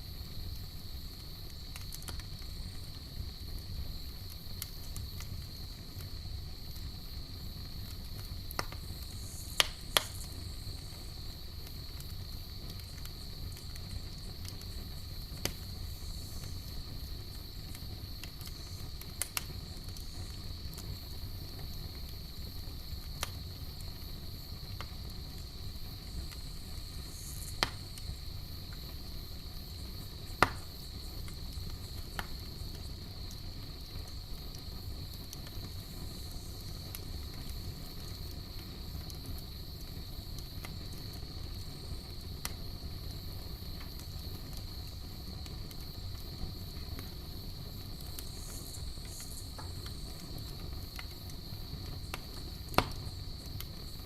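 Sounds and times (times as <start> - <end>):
campfire crackles and pops: 0.0 - 54.0
campfire rumbling: 0.0 - 54.0
high insect chorus: 0.0 - 54.0.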